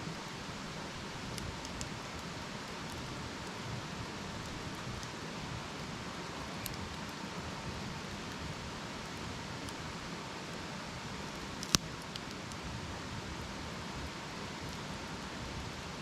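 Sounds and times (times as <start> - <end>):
campfire hissing: 0.0 - 16.0
fire crackles: 0.0 - 16.0.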